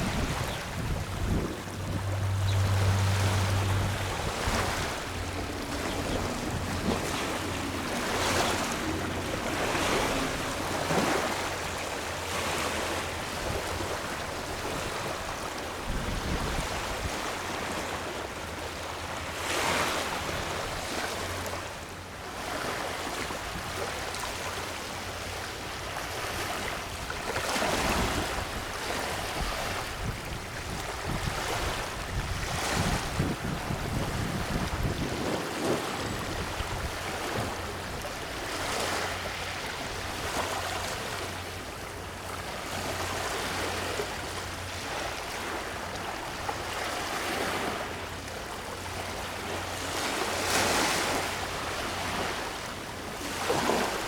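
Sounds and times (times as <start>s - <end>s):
small waves washing on beach: 0.0s - 54.0s.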